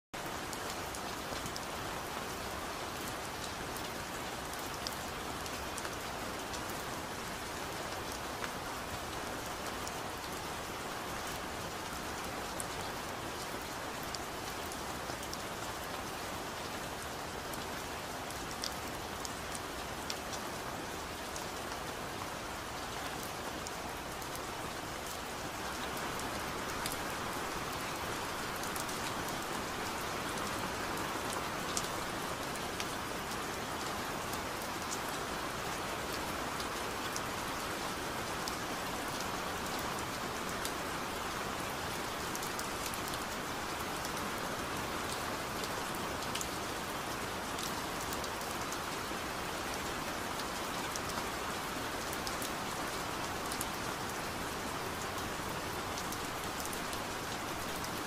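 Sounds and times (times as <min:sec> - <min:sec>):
rain falling on leaves: 0:00.1 - 0:58.0.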